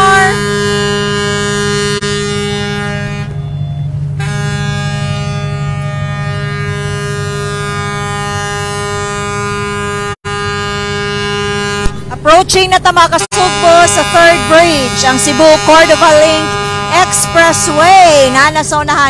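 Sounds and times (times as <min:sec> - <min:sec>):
ship horns blowing long blasts: 0:00.0 - 0:12.4, 0:13.0 - 0:19.0.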